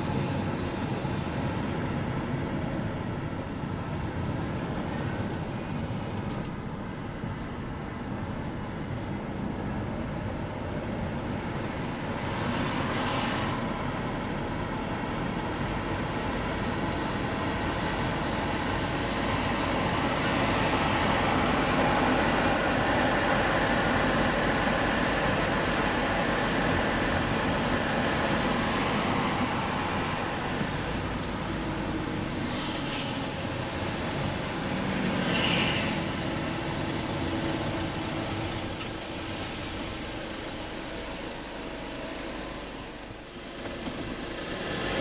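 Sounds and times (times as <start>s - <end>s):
car road and engine noise: 0.0s - 45.0s.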